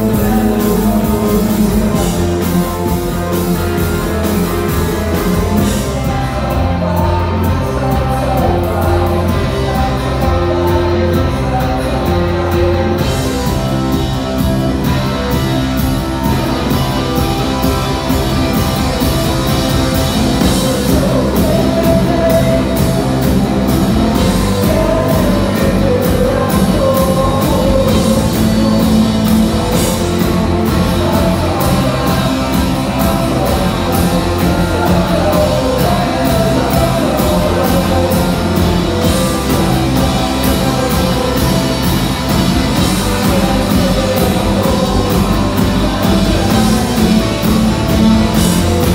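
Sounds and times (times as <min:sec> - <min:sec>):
drum kit: 0:00.0 - 0:48.9
electric guitar: 0:00.0 - 0:48.9
keyboard: 0:00.0 - 0:48.9
man singing: 0:00.0 - 0:48.9.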